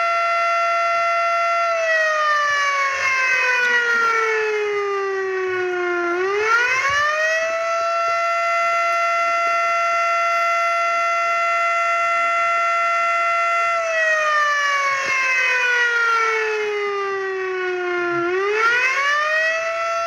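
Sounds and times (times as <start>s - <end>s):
tornado warning siren wailing: 0.0s - 20.0s.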